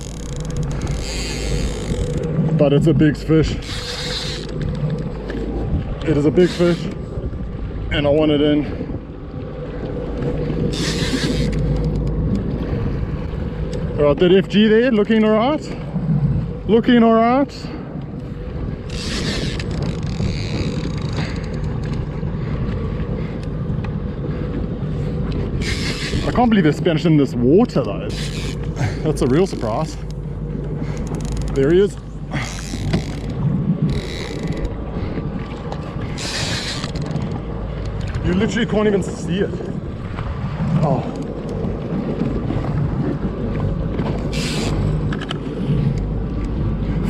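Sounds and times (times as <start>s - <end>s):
boat engine rumble: 0.0s - 47.0s
wind buffeting microphone: 0.0s - 47.0s.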